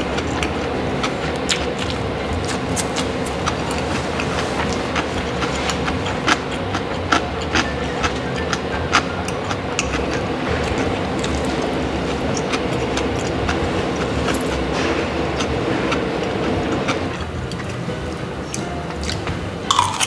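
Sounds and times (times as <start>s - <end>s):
construction work rumble: 0.0s - 20.0s.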